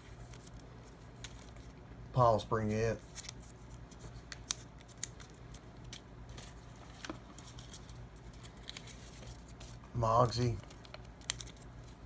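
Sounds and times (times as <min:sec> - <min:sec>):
paper rustling: 0:00.0 - 0:01.7, 0:03.0 - 0:12.0.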